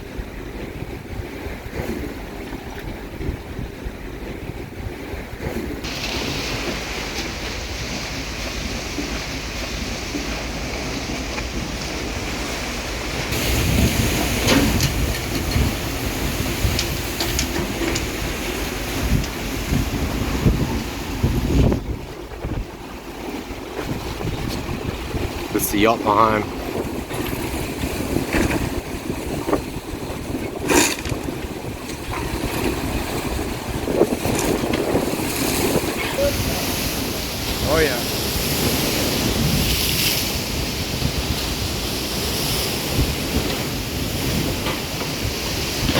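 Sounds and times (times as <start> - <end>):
water churning and splashing: 0.0 - 45.9
wind buffeting microphone: 0.0 - 45.9.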